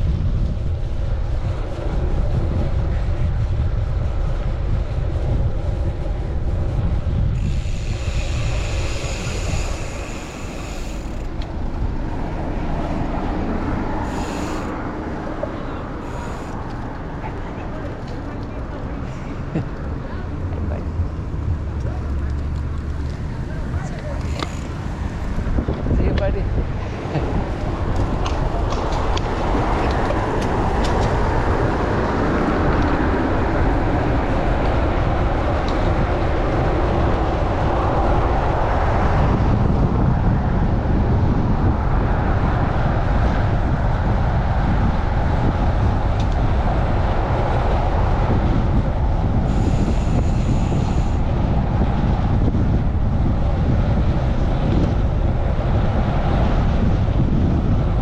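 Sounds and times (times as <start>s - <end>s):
city traffic noise: 0.0s - 58.0s
wind buffeting microphone: 0.0s - 58.0s.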